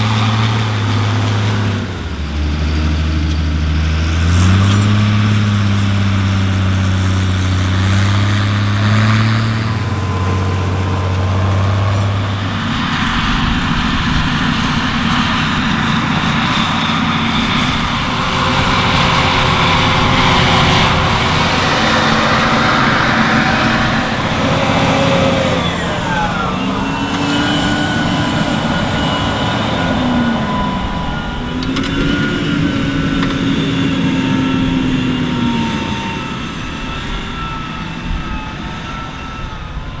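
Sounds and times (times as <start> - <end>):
farm machinery engines running: 0.0 - 40.0.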